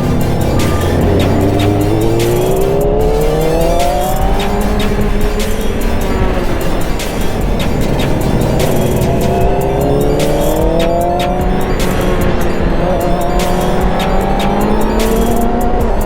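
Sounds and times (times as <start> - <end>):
motorcycle engine accelerating: 0.0 - 16.0
rushing wind noise: 0.0 - 16.0.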